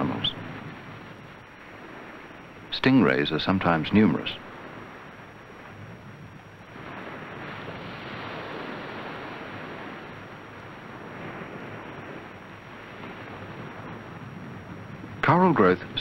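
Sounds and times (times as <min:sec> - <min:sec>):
sea surf washing: 0:00.0 - 0:16.0.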